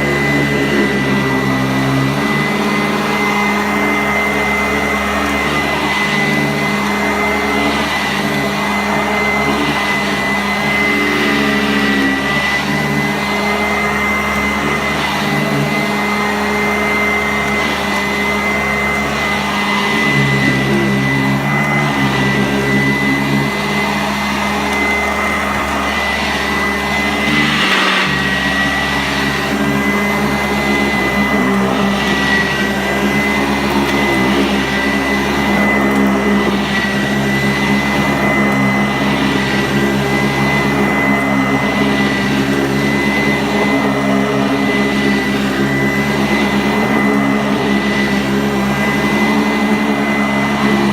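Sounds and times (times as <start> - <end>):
upright vacuum cleaner running: 0.0 - 50.9.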